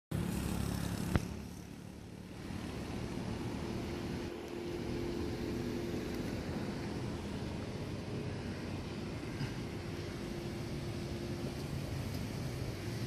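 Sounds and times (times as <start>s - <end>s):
high-pitched whine: 0.1s - 13.0s
excavator diesel engine running: 0.2s - 13.0s.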